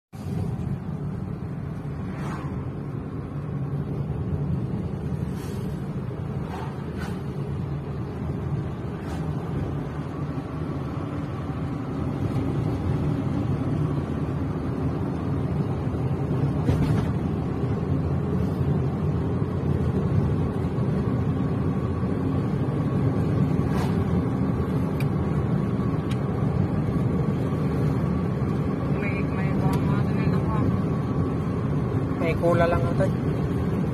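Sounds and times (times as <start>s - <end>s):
car engine and tyre hum: 0.1s - 33.9s.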